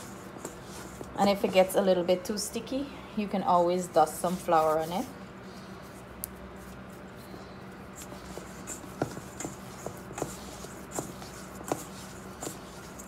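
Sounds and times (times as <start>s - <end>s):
dough rubbing and folding: 0.0s - 2.5s, 3.5s - 13.0s.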